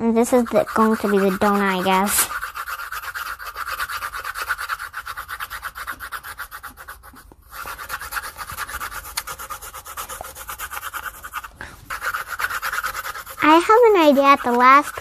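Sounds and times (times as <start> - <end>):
pencils scratching on paper: 0.0 - 15.0.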